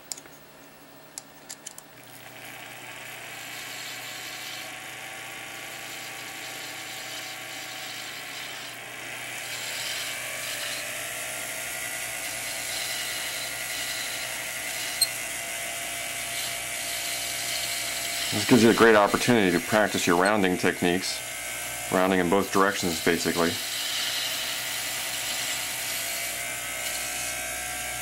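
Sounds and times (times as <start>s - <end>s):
lathe whirring: 2.3s - 28.0s.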